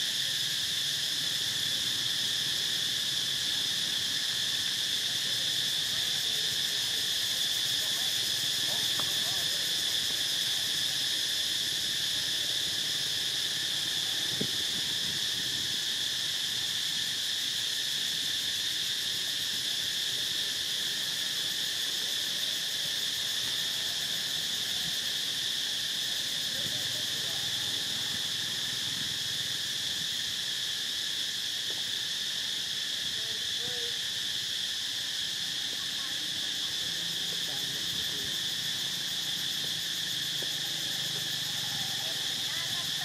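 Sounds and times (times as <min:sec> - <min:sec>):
insect chorus drone: 0:00.0 - 0:43.0.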